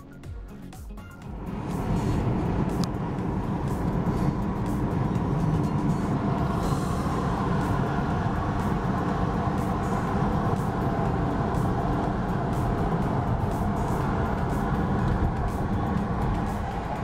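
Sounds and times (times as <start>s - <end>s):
car engine and tyre road noise: 0.0s - 17.0s.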